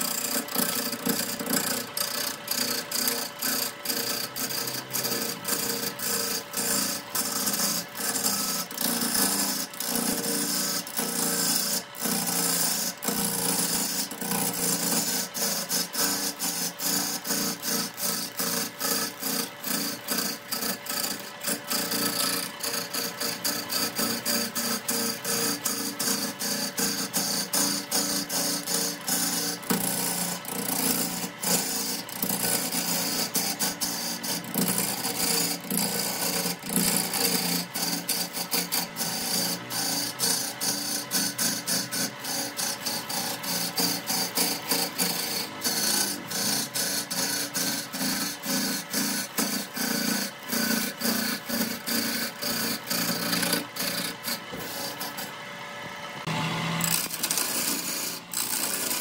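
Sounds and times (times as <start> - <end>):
lathe hum: 0.0 - 59.0
tool scraping wood on lathe: 0.0 - 59.0.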